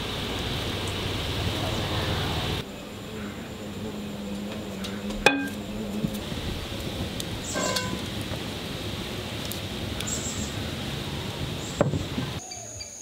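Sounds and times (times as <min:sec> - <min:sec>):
steam and boiling water hissing: 0:00.0 - 0:12.4.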